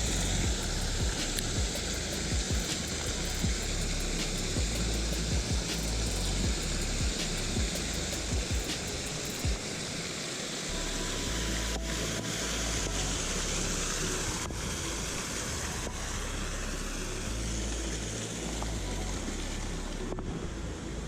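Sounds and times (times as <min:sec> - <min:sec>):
pond waterfall rushing: 0:00.0 - 0:18.8.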